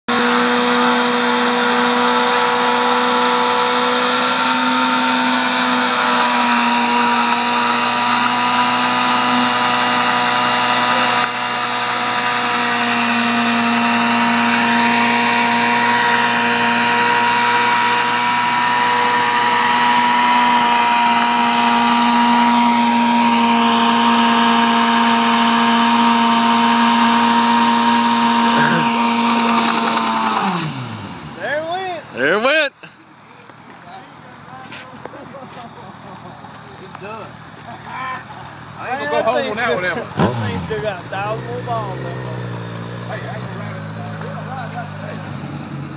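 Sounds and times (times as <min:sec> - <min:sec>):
motorcycle engine revving: 0:00.1 - 0:32.5, 0:36.0 - 0:45.9.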